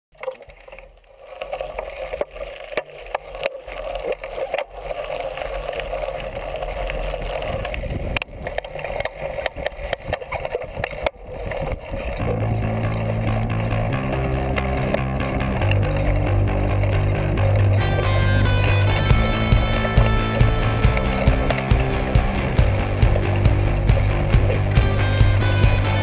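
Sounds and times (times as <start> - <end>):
bike tyres rolling on loose ground: 0.2 - 26.0
bike rattling over bumps: 4.2 - 26.0.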